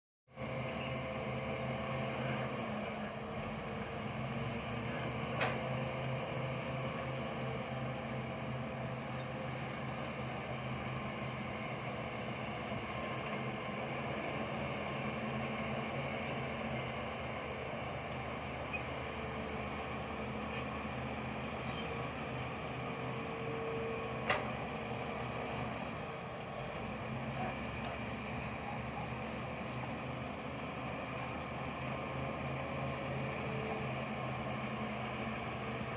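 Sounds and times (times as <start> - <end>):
diesel engine droning: 0.3 - 35.9.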